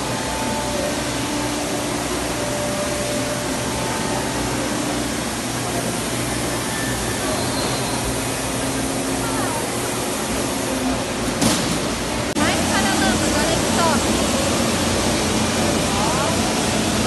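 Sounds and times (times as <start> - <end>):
low machinery hum: 0.0 - 17.0
machinery hiss: 0.0 - 17.0.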